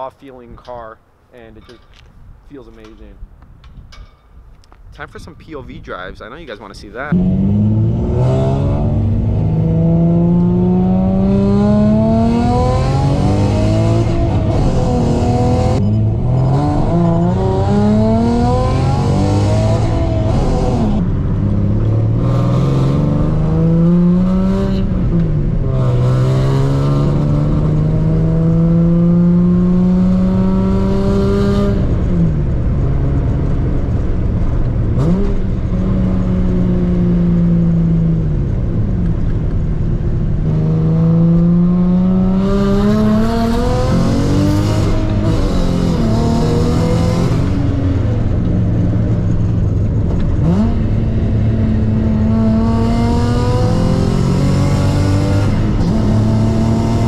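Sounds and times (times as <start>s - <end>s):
car engine accelerating: 7.0s - 57.0s.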